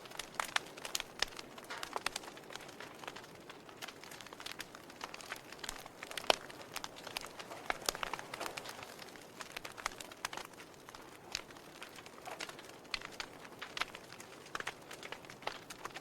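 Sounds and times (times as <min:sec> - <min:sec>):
burning logs popping and snapping: 0:00.0 - 0:16.0
soft steady fire hiss: 0:00.0 - 0:16.0.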